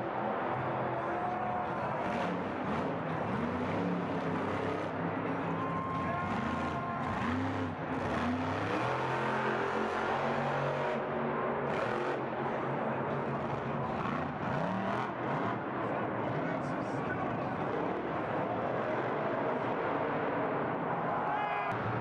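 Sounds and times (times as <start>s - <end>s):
truck engine revving: 0.0s - 20.6s.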